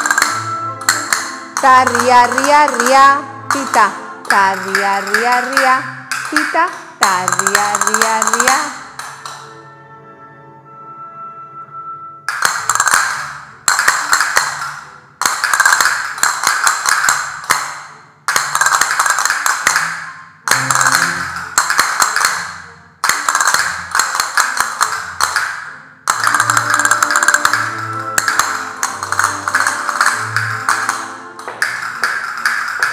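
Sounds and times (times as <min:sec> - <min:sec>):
castanets clicking: 0:00.0 - 0:09.5, 0:12.3 - 0:32.9.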